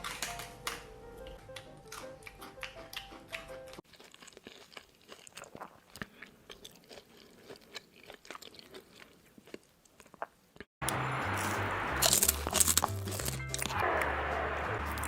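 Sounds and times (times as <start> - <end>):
close chewing mouth clicks: 1.6 - 13.8.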